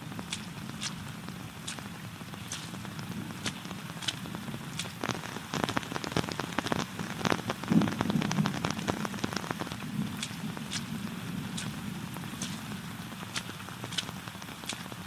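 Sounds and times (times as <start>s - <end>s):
steady rain: 0.0s - 15.0s
sharp taps and crackles: 0.2s - 15.0s.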